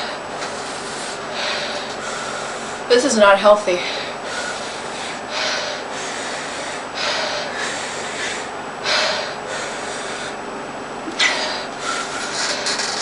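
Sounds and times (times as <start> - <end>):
person breathing hard through mouth: 0.0 - 2.9, 3.7 - 10.4, 11.2 - 13.0.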